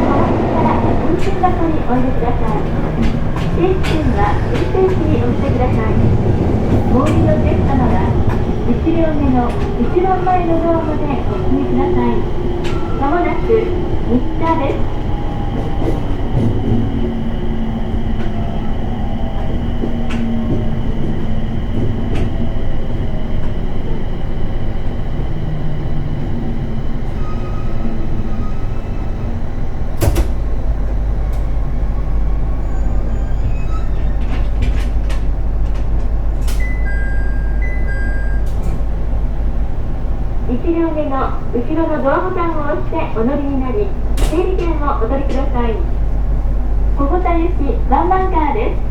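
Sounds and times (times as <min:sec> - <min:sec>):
train stopping clunk: 0:00.0 - 0:48.9.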